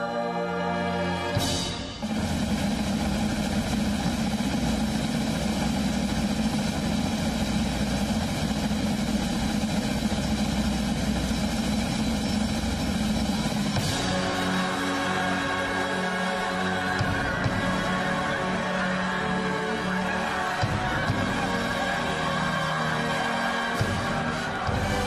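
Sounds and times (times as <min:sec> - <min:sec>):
train rumbling in tunnel: 0:01.3 - 0:25.0.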